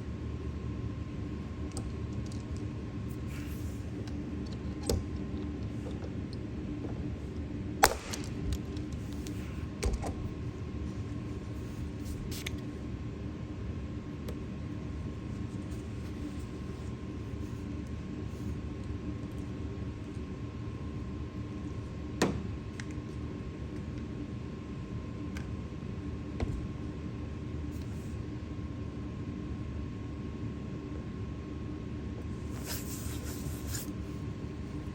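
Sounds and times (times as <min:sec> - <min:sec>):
low hum with faint tone: 0:00.0 - 0:34.9.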